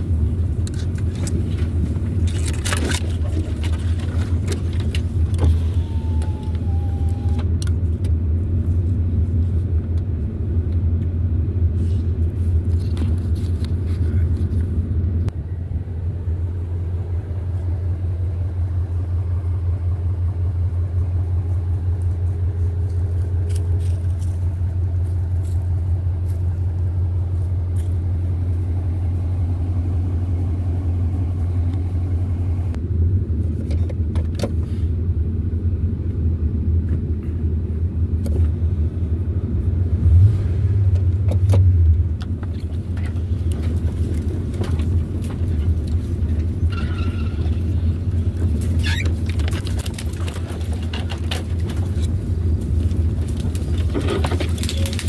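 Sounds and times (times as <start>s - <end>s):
vehicle rumble in motion: 0.0s - 55.0s.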